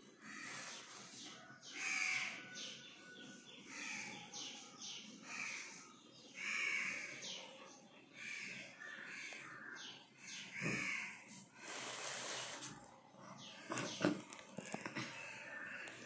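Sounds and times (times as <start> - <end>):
harsh bird calls: 0.0 - 12.7, 13.3 - 16.0.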